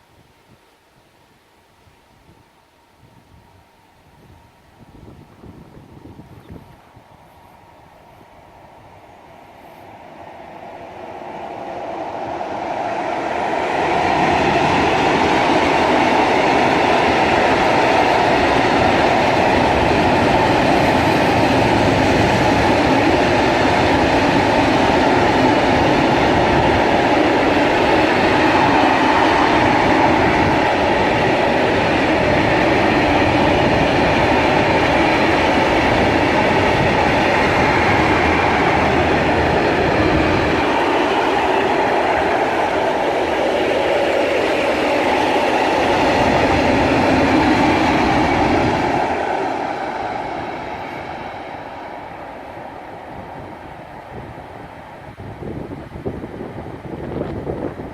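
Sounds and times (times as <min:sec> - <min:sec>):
freight train passing: 0:02.6 - 0:57.9.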